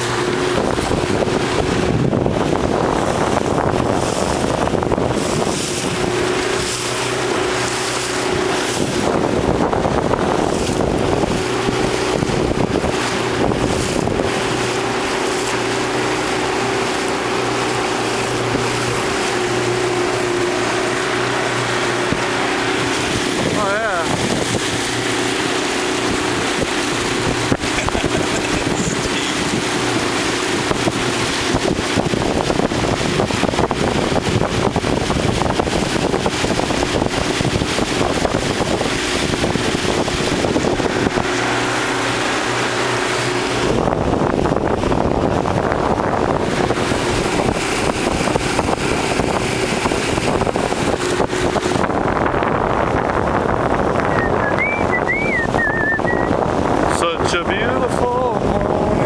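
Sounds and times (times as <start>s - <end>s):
motorboat engine humming: 0.0s - 59.0s
wind noise on microphone: 0.0s - 59.0s.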